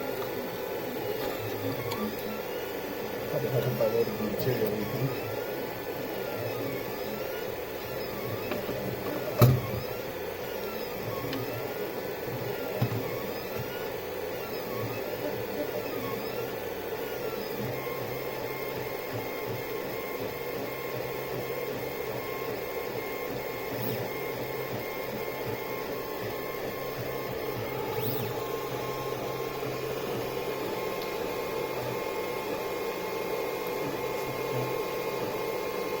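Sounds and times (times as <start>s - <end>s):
printer whir: 0.0s - 36.0s
stepper motor tones: 0.0s - 36.0s.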